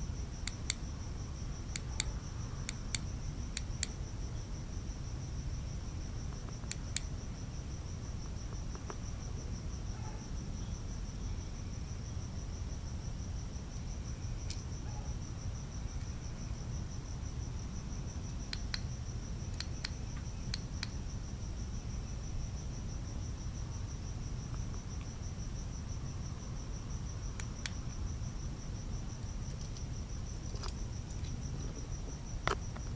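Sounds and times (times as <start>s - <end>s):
crickets trilling: 0.0s - 32.9s.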